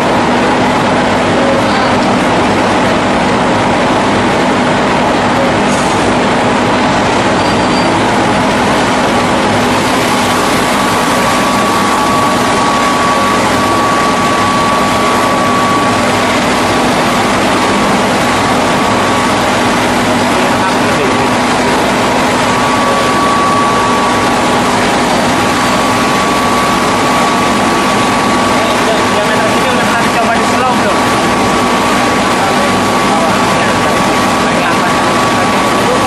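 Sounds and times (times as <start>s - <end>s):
thin high whine: 0.0s - 36.0s
veneer lathe mechanical din: 6.2s - 36.0s.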